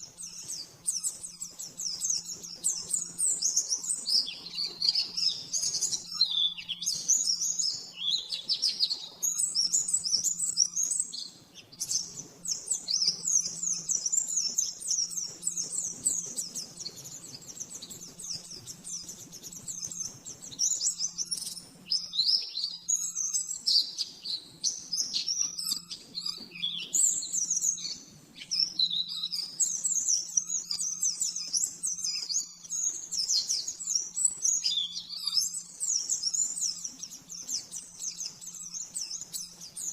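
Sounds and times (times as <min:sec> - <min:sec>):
bird twittering song: 0:00.0 - 0:39.9
steady low hum: 0:00.0 - 0:39.9.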